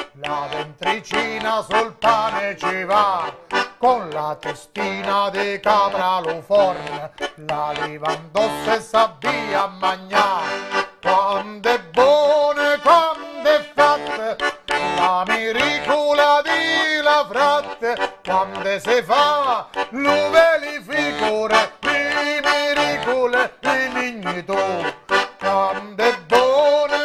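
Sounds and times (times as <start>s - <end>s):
button accordion playing chords: 0.0s - 27.0s
man singing: 0.0s - 27.0s.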